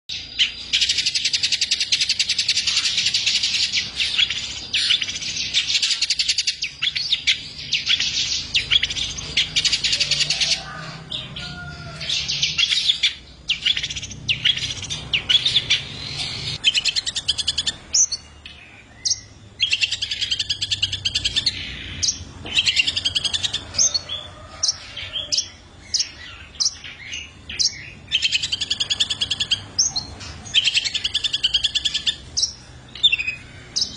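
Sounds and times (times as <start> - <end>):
bird chattering song: 0.1 - 33.9.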